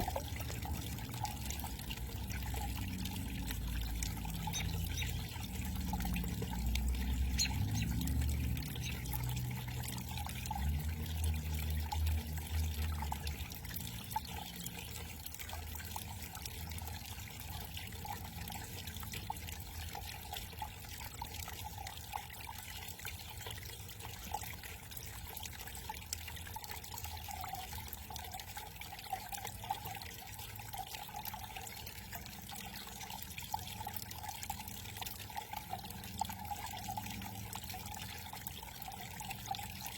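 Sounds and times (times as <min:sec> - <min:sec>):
waterfall trickling and pouring: 0:00.0 - 0:39.9.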